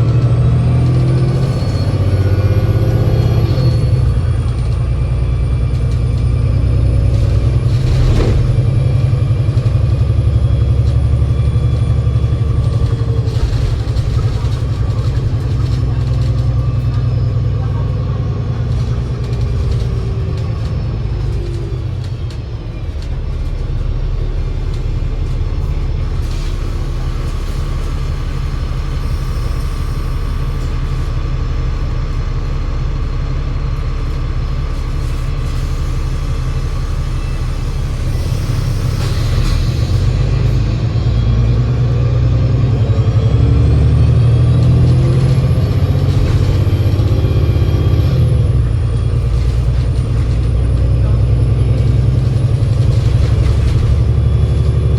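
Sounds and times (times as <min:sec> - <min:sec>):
gearbox whining: 0:00.0 - 0:35.5, 0:42.4 - 0:54.9
bus engine rumble: 0:00.0 - 0:54.9.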